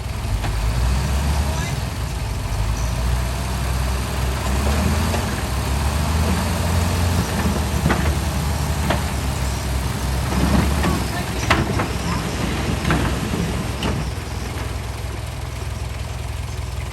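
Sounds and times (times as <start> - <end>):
heavy diesel engine idling: 0.0 - 16.9.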